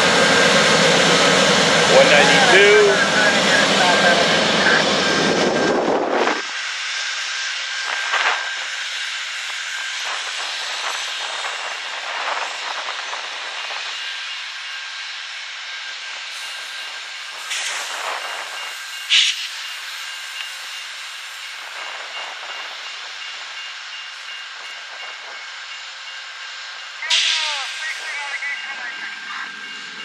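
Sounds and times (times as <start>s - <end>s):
diesel locomotive engine: 0.0s - 30.0s
train cars rolling with hiss: 0.0s - 30.0s.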